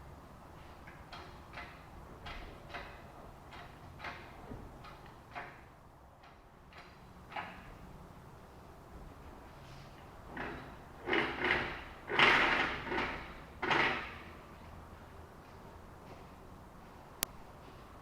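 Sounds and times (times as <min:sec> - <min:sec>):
knocks and scrapes of engine work: 0:00.5 - 0:15.1.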